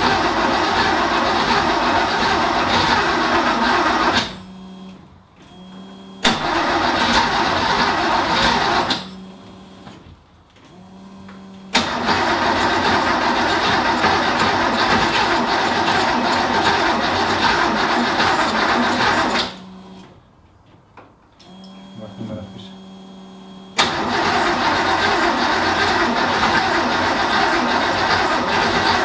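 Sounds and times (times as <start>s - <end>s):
car engine cranking on starter: 0.0s - 10.0s, 10.7s - 20.2s, 23.4s - 29.0s.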